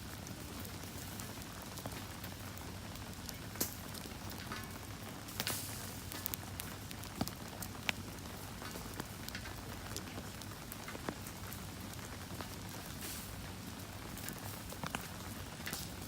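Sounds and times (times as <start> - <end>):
campfire crackling and popping: 0.0 - 16.0
steady rain falling: 0.0 - 16.0.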